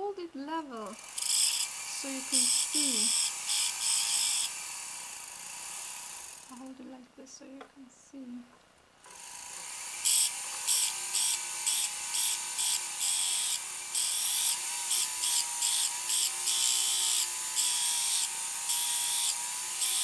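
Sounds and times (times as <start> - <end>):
rotary tool grinding metal: 0.8 - 6.6, 9.0 - 20.0.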